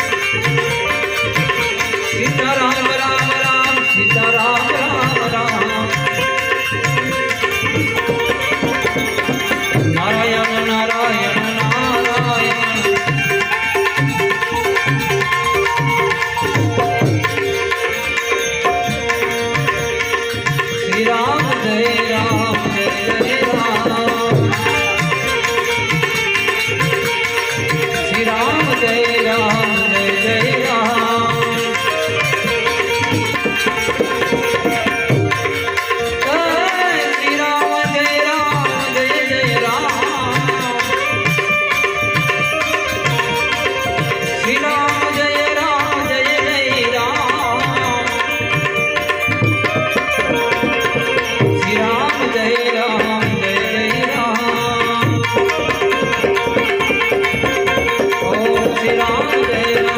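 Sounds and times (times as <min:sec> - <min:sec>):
harmonium melody: 0:00.0 - 0:59.9
tabla rhythm: 0:00.0 - 0:59.9.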